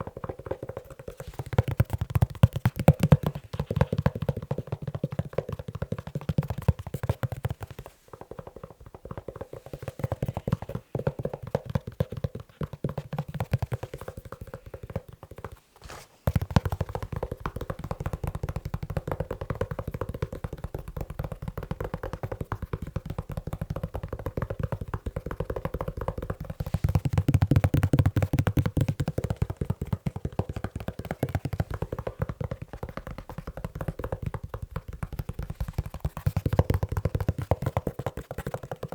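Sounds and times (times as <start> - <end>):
fingertip tapping on leather shoe: 0.0 - 15.6, 16.2 - 38.9.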